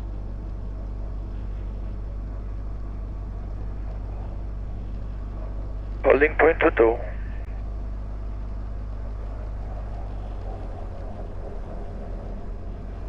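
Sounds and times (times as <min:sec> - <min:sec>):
aircraft piston engine idling: 0:00.0 - 0:13.0.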